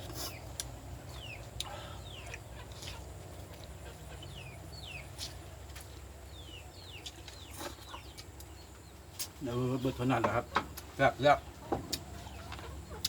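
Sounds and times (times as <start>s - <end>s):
chickens peeping: 0.0s - 13.0s.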